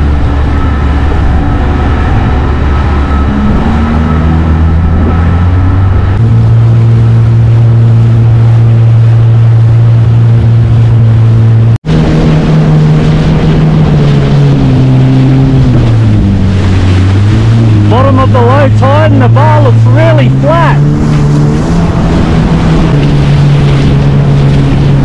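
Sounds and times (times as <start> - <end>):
jet ski engine running: 0.0 - 25.0
water rushing under hull: 0.0 - 25.0.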